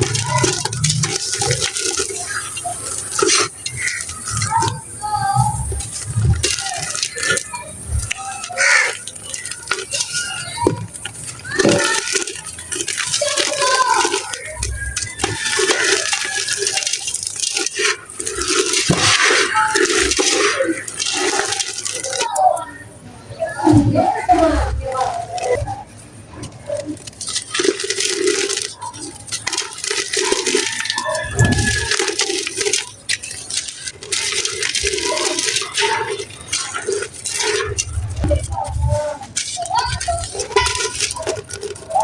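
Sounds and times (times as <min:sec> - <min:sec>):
dry clay crumbling: 0:00.0 - 0:22.6, 0:23.4 - 0:42.0.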